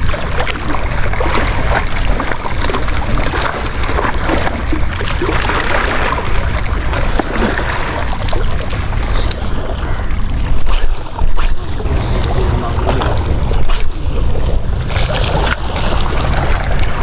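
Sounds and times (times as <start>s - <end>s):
sea water washing on shore: 0.0s - 17.0s
wind rumbling on microphone: 0.0s - 17.0s.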